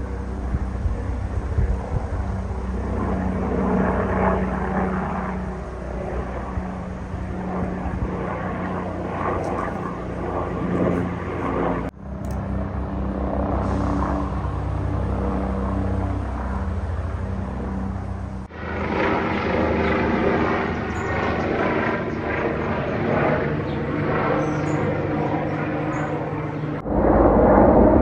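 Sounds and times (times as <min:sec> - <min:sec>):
engine drone: 0:00.0 - 0:28.0
helicopter rotors chopping: 0:00.0 - 0:28.0.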